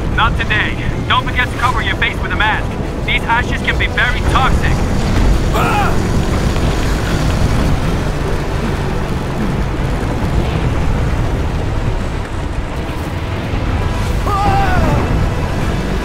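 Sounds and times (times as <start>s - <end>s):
loud low rumble: 0.0s - 16.0s.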